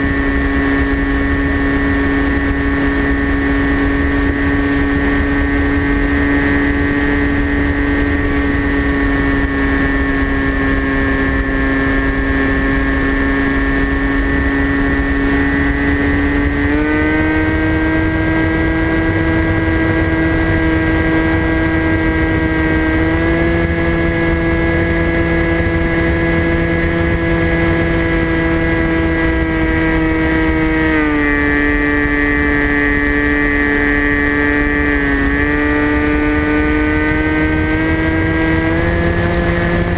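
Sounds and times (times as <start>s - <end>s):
electric motor and propeller whining: 0.0s - 39.9s
wind rumbling on microphone: 0.0s - 39.9s.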